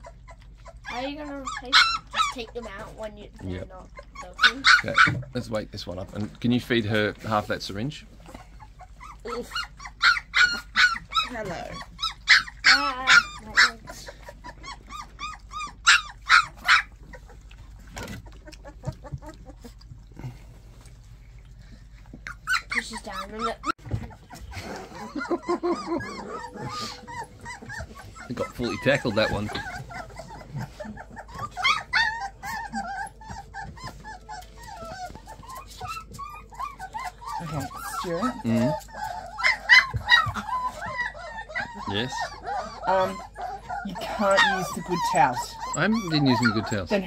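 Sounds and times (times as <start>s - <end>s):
puppies whimpering and squealing: 0.0s - 47.0s.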